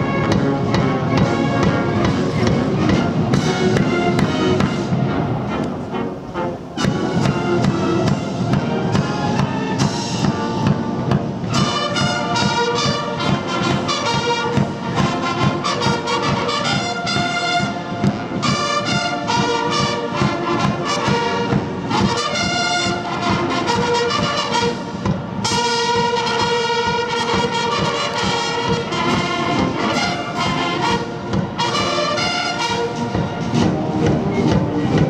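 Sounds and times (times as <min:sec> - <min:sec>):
steady drum beat: 0:00.0 - 0:05.6, 0:06.8 - 0:35.0
military brass band march: 0:00.0 - 0:35.0.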